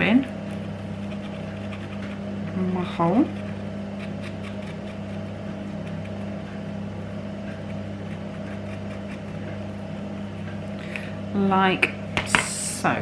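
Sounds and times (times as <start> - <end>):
low electrical hum with buzz: 0.0 - 13.0.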